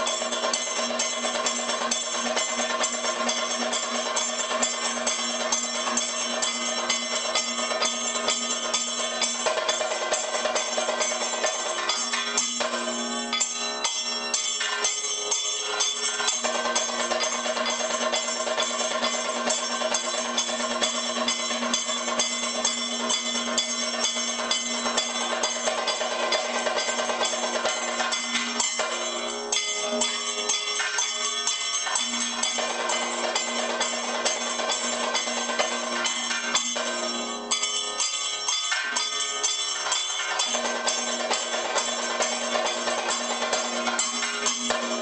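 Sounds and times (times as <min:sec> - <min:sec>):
gong ringing: 0:00.0 - 0:45.0
metal cymbals: 0:00.0 - 0:45.0.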